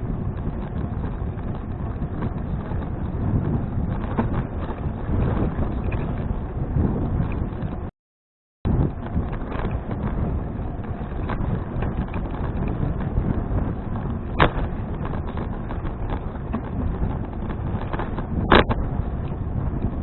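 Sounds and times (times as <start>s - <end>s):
bicycle road rumble: 0.0s - 7.9s, 8.6s - 20.0s
wind buffeting microphone: 0.0s - 7.9s, 8.6s - 20.0s.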